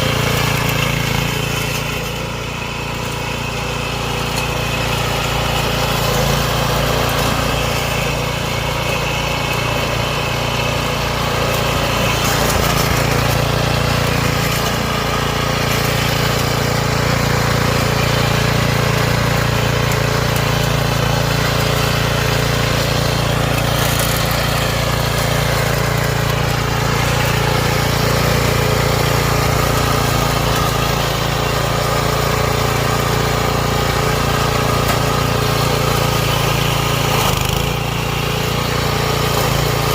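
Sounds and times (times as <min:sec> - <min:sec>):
lawn mower motor running: 0:00.0 - 0:39.9.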